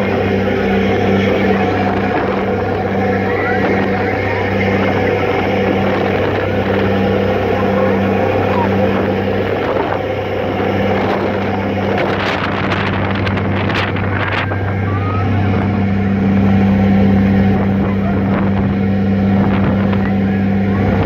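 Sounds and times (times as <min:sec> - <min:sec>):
ferry engines droning: 0:00.0 - 0:21.0
wind buffeting microphone: 0:00.0 - 0:21.0.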